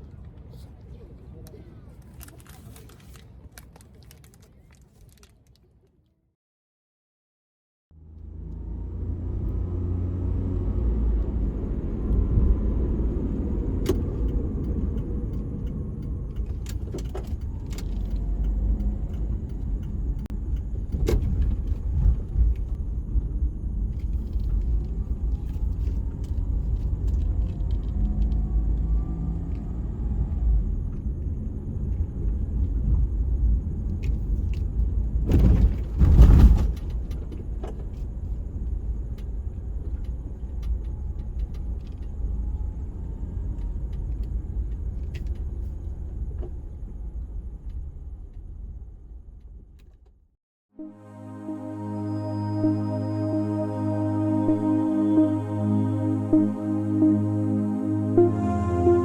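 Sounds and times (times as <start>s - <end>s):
car engine and road noise: 7.9s - 59.0s.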